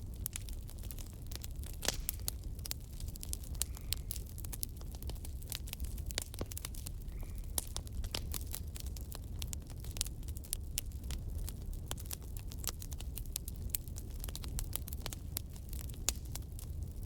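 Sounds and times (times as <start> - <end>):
flames rumbling: 0.0 - 17.0
logs crackling and popping: 0.0 - 17.0.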